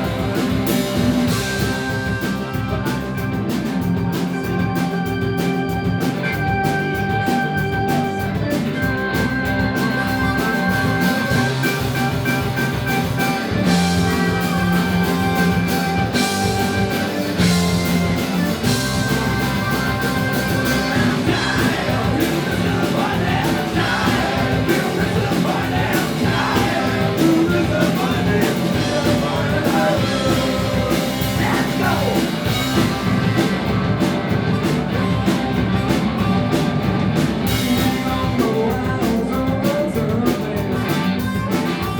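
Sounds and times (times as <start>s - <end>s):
live rock band playing: 0.0s - 41.9s.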